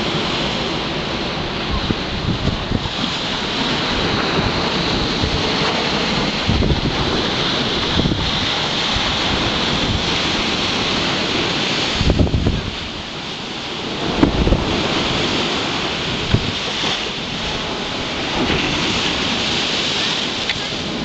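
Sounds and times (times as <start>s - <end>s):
waves breaking against wall: 0.0s - 21.0s
wind buffeting microphone: 0.0s - 21.0s.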